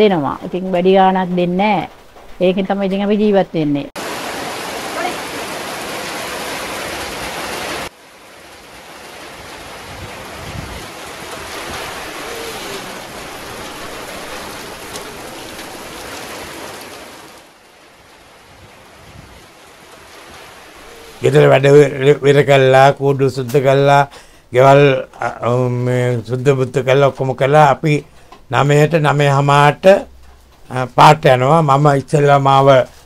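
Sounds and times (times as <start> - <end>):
light rain taps: 0.0 - 33.0
rain hissing: 0.1 - 33.0.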